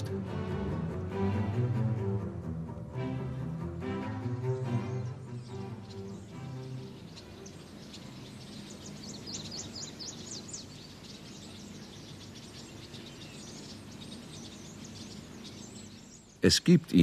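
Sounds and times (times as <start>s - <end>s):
small birds chirping: 0.0s - 17.0s
steady low background hum: 0.0s - 17.0s.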